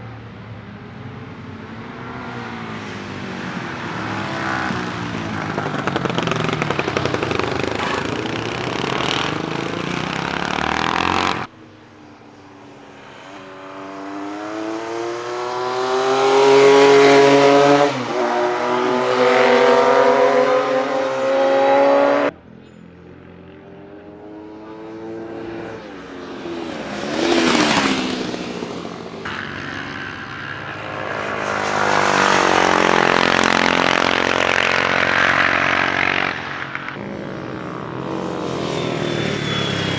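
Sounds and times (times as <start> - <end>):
motorcycle passing by: 0.0 - 39.9
racing motorcycle accelerating: 0.0 - 39.9.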